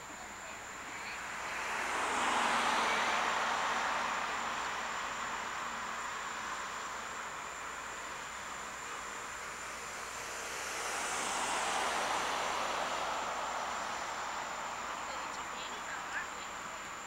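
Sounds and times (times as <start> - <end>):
faint high whine: 0.0 - 17.0
outdoor background noise: 0.0 - 17.0.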